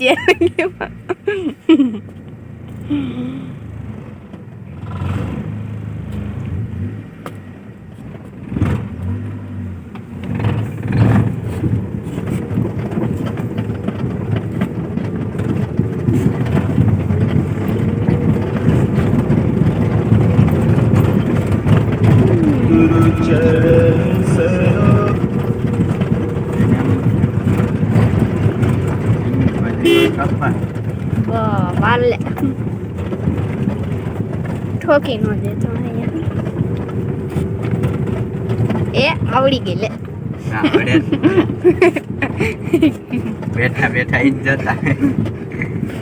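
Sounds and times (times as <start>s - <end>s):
car engine running: 0.0s - 46.0s.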